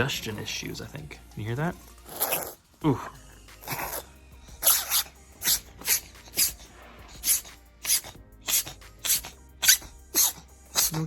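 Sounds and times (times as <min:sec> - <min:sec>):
pet sneezing: 0:02.0 - 0:11.0.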